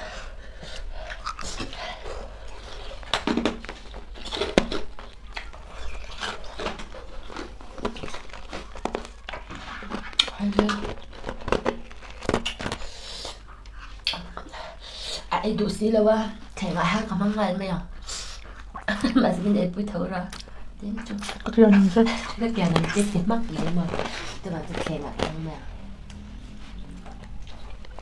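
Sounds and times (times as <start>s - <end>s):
chewing and mouth noises: 0.5s - 14.8s, 18.0s - 19.5s, 20.3s - 28.0s.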